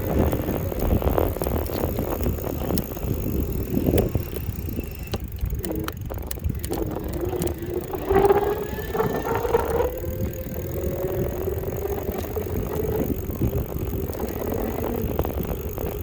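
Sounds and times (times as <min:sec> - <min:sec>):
electric motor whine: 0:00.0 - 0:16.0
wind and tyre rumble: 0:00.0 - 0:16.0.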